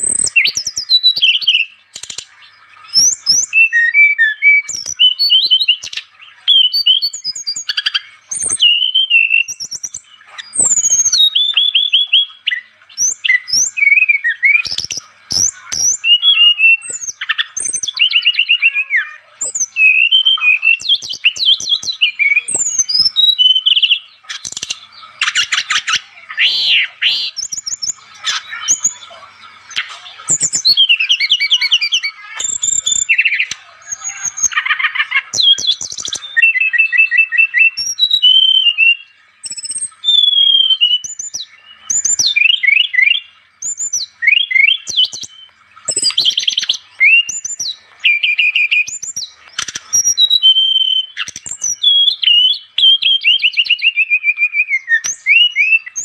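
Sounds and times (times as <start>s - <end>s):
flycatcher singing whistles and trills: 0.0s - 56.0s.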